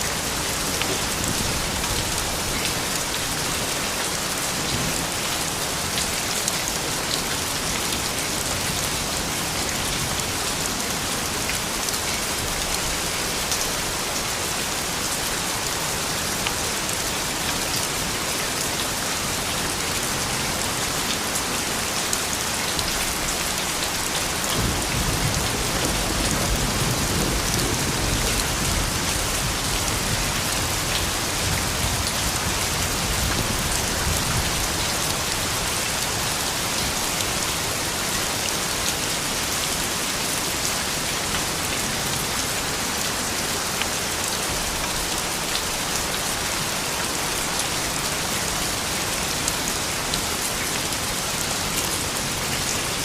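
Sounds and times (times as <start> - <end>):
gentle rain on hard surfaces: 0.0 - 53.0.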